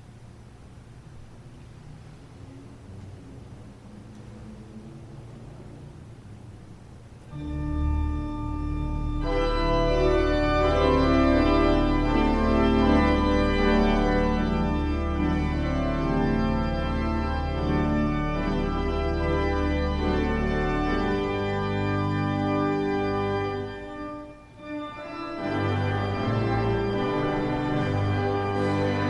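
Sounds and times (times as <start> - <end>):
organ playing sustained chords: 0.4 - 29.0.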